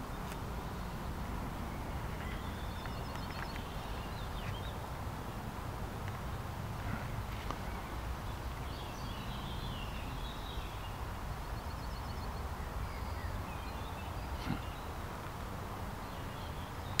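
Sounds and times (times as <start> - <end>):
bird calls and chirps: 0.0 - 4.9, 6.2 - 15.0, 16.0 - 17.0
steady low rumble: 0.0 - 16.0.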